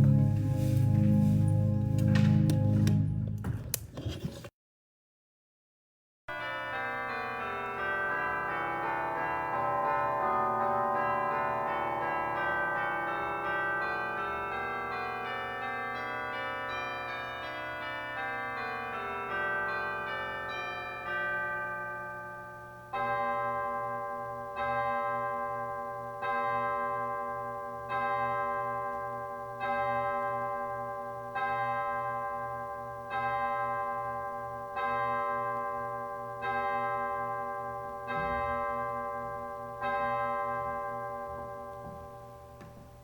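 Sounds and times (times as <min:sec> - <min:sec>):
church bell tolling: 0:00.0 - 0:03.2, 0:06.3 - 0:43.0.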